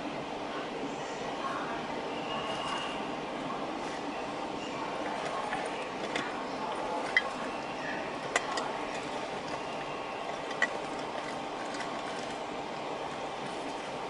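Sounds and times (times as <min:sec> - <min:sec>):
city street traffic noise: 0:00.0 - 0:14.0.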